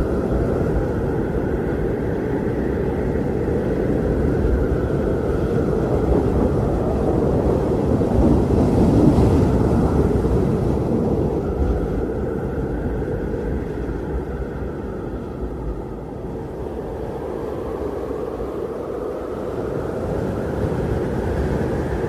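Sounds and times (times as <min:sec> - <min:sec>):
strong wind blowing: 0:00.0 - 0:22.0.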